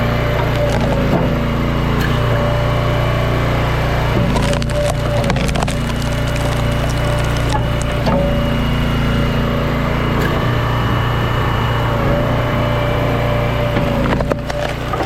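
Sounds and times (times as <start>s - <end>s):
log splitter engine running: 0.0s - 15.0s.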